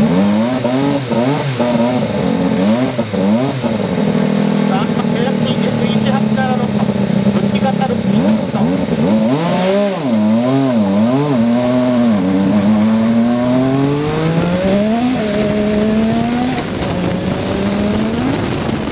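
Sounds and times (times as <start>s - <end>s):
racing car engine revving: 0.0s - 18.9s.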